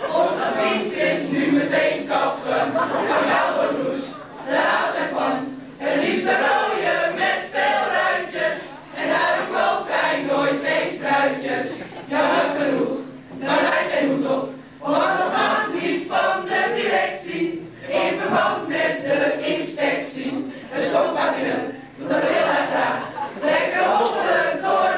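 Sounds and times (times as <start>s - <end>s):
children singing in chorus: 0.0s - 24.9s.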